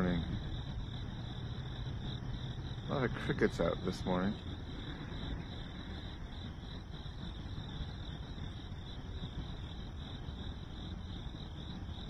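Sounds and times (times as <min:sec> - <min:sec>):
crickets chirping: 0:00.0 - 0:12.0
low even rumble: 0:00.0 - 0:12.0.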